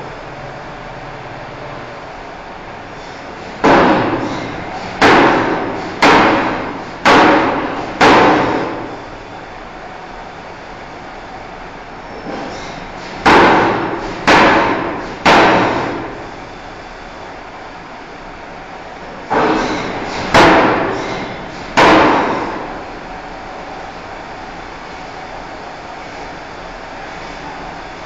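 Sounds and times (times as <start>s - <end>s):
steady shop noise: 0.0s - 28.0s.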